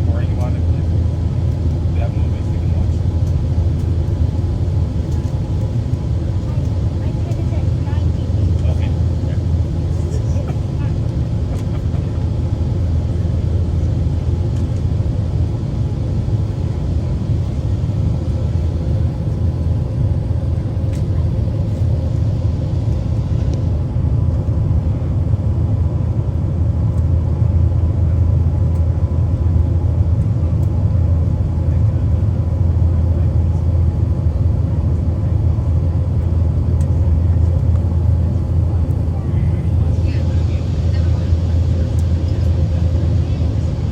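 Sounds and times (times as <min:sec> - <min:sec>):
aircraft cabin rumble: 0:00.0 - 0:43.9.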